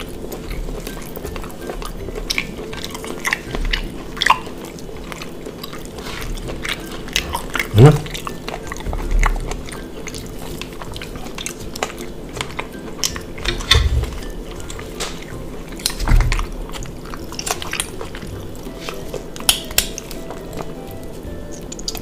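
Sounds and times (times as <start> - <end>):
wet chewing: 0.0 - 22.0.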